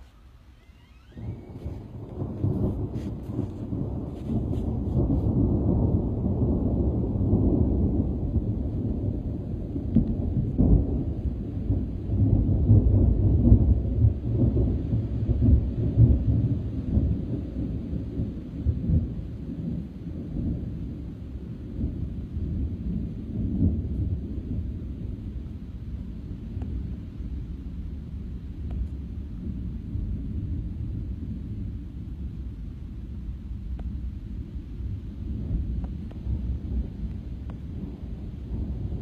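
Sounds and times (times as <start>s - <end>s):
thunder rumbling: 0.0s - 39.0s.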